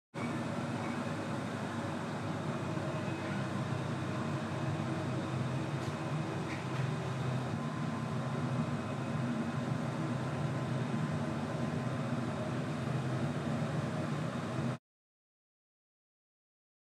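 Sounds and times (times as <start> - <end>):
low mechanical hum: 0.2 - 14.8.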